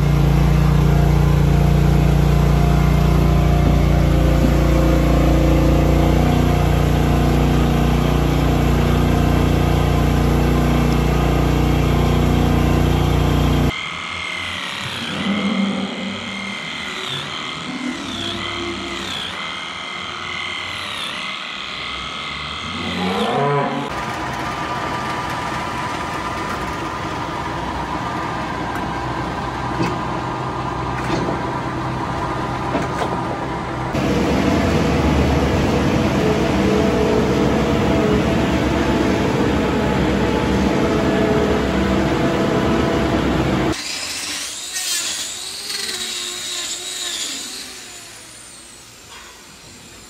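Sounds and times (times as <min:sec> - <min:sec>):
feed mixer engine: 0:00.0 - 0:23.0, 0:23.8 - 0:50.0
electric clippers whining: 0:00.0 - 0:24.0, 0:32.7 - 0:50.0.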